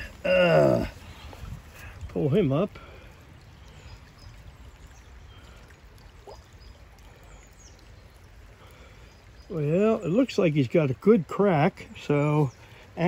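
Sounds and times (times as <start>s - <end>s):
creek water trickling over stones: 0.0s - 13.0s.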